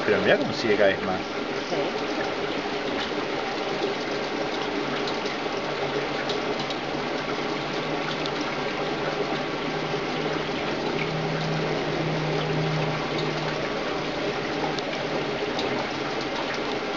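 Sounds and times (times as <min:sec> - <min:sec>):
gas bubbling through water: 0:00.0 - 0:16.9
low steady hum: 0:00.0 - 0:16.9.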